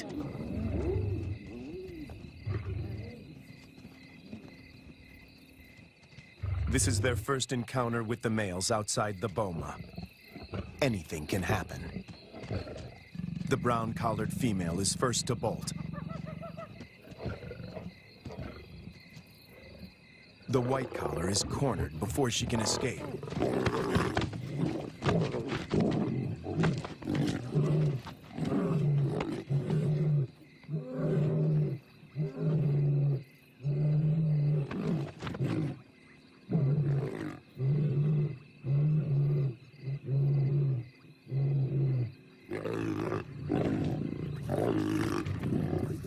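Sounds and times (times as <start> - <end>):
lions snarling and growling: 0.0 - 3.5, 6.4 - 7.3, 9.3 - 46.0.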